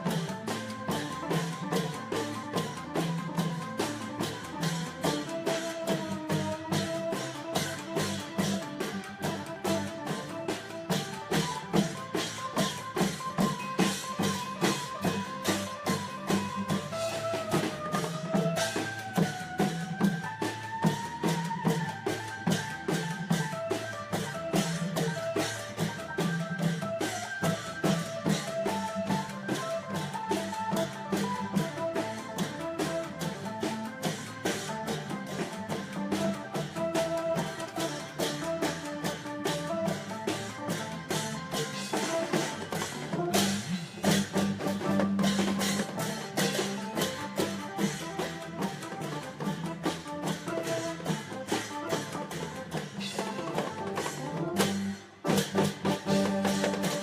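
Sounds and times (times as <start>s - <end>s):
drum and cymbal beat: 0.0s - 57.0s
held melody line: 0.0s - 57.0s.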